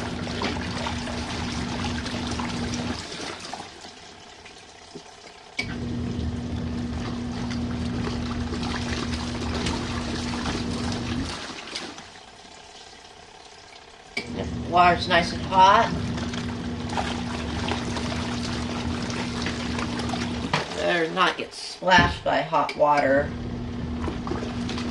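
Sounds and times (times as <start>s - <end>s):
washing machine motor churning: 0.0s - 24.9s.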